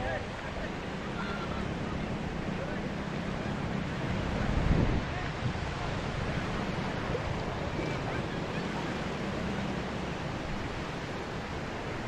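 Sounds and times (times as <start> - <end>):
surf washing onto beach: 0.0 - 12.0
wind on microphone: 0.0 - 12.0.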